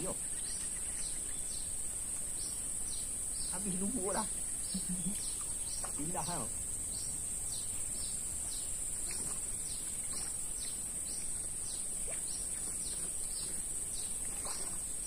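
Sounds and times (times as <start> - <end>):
birds calling in falling notes: 0.0 - 15.0
high-pitched insect drone: 0.0 - 15.0.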